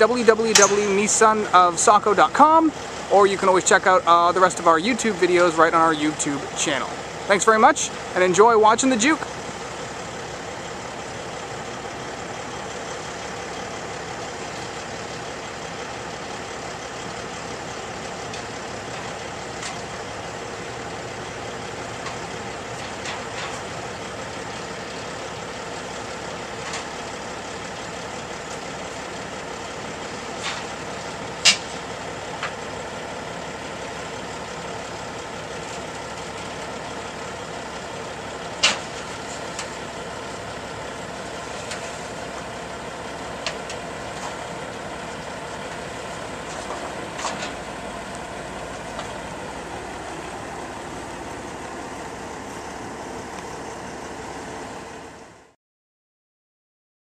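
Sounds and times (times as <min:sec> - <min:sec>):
vehicle engine idling: 0:00.0 - 0:55.6.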